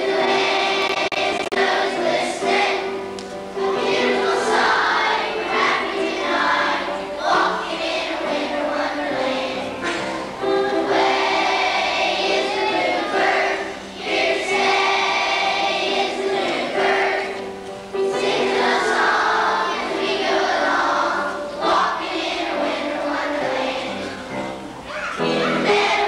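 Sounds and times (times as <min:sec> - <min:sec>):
children's choir singing: 0:00.0 - 0:26.0.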